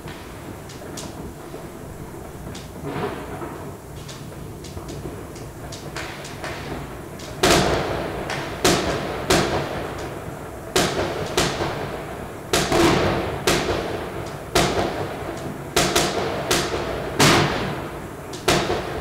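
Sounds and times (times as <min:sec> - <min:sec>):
fireworks bangs with echo: 0:00.0 - 0:19.0.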